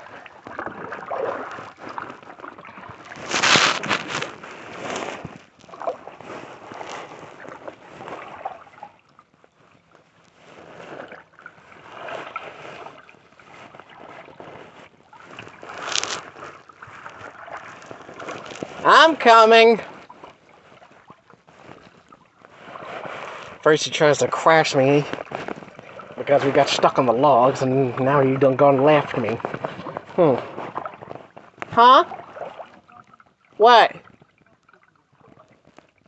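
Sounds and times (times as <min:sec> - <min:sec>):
paddle splashing in water: 0:00.0 - 0:36.0.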